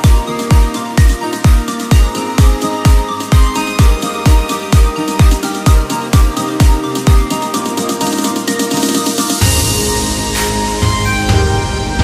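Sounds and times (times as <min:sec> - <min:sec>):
electronic music with synth: 0:00.0 - 0:12.0
heavy bass line: 0:00.0 - 0:12.0.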